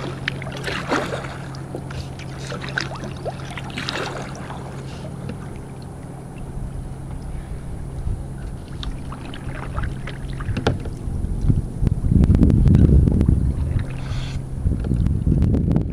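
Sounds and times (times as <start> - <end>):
paddle splashing in water: 0.0 - 11.6, 13.3 - 15.0
low steady hum: 0.0 - 15.9.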